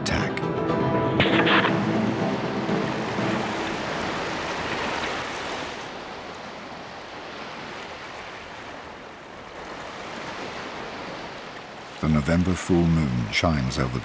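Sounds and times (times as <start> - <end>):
rushing sea water: 0.0 - 14.0.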